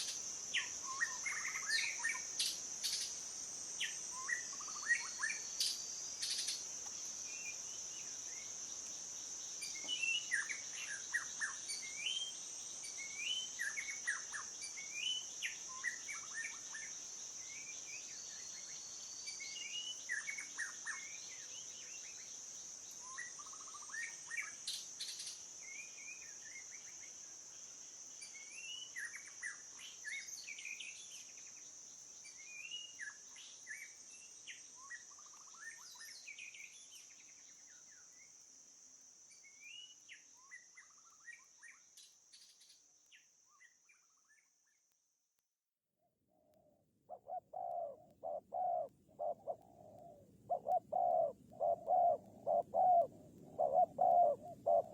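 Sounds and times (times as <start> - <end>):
songbirds chirping: 0.0 - 45.0, 46.4 - 54.9.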